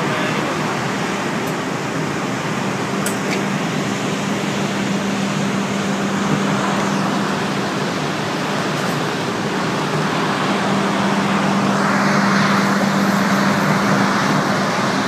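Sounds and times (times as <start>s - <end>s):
industrial machinery humming: 0.0s - 15.0s.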